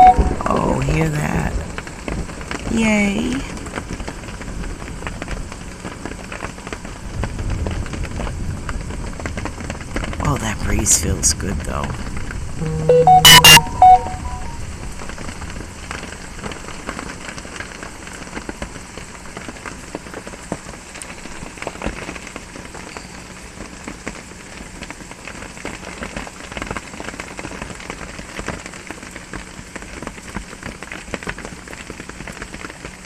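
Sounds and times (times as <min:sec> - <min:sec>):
rain drumming on a metal roof: 0:00.0 - 0:12.6, 0:14.7 - 0:33.0.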